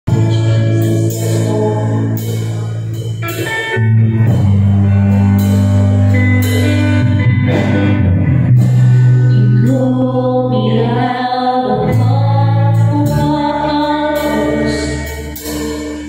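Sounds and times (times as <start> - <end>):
electric guitar: 0.1 - 16.0.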